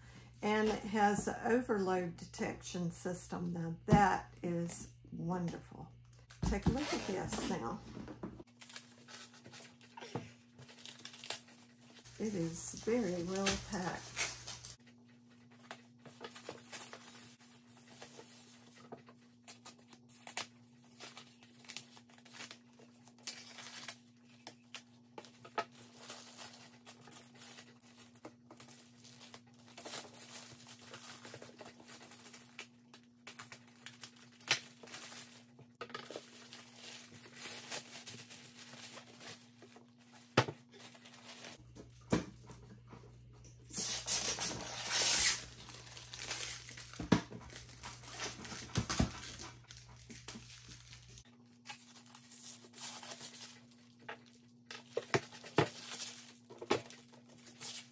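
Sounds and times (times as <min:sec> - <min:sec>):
packaging wrap rustling and tearing: 0:08.4 - 0:14.8, 0:15.6 - 0:41.7, 0:43.7 - 0:57.9.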